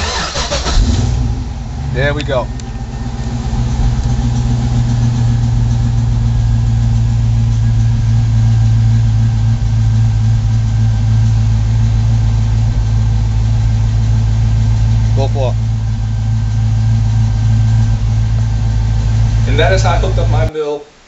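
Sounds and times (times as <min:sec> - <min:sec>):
vee-eight engine idling: 0:00.0 - 0:20.5.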